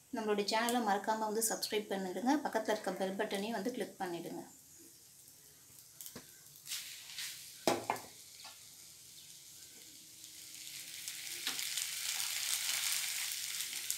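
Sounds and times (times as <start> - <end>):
food sizzling: 0.0 - 13.9.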